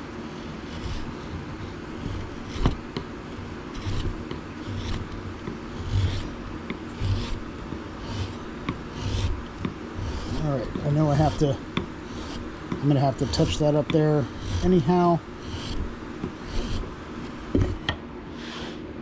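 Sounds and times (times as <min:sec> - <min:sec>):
chisel scraping wood: 0:00.3 - 0:18.8.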